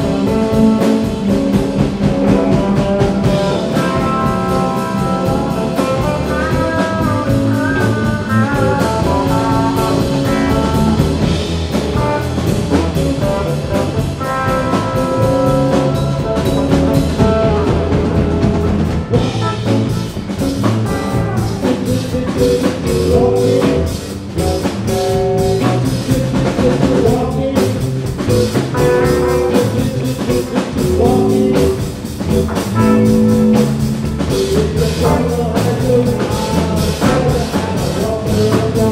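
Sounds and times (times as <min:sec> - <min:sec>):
bending electric guitar lines: 0:00.0 - 0:38.9
blues-rock band playing: 0:00.0 - 0:38.9.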